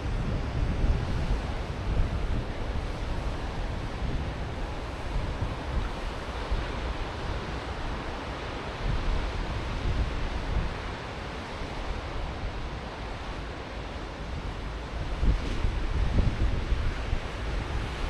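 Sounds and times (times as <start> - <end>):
wind buffeting microphone: 0.0 - 10.9, 14.2 - 18.0
ocean surf on beach: 0.0 - 18.0.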